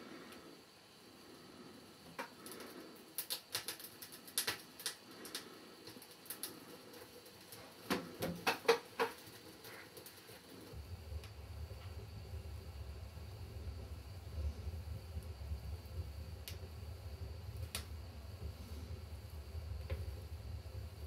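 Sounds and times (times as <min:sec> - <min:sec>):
kindling crackling and popping: 0:02.0 - 0:21.0.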